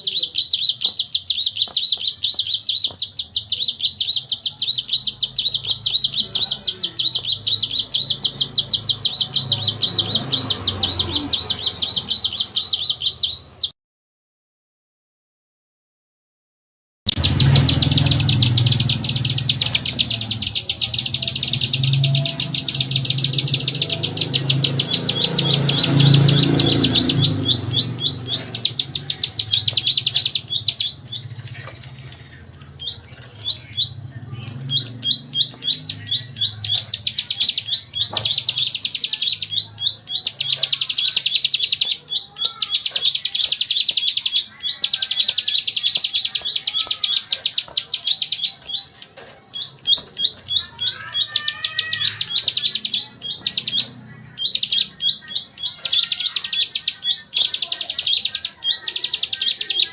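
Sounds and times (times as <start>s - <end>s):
songbird singing rapid notes: 0.0s - 13.7s, 17.1s - 59.9s.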